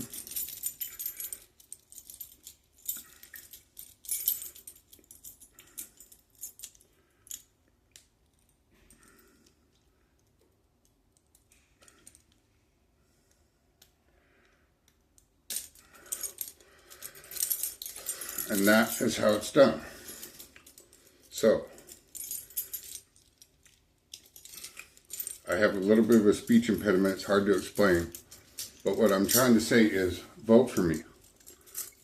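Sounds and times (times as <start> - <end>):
metal handcuffs clinking: 0.0 - 12.4, 14.9 - 32.0.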